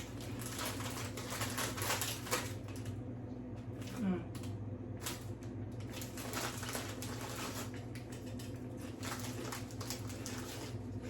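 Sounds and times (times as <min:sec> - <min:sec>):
chewing potato chips: 0:00.0 - 0:03.0, 0:03.7 - 0:11.0.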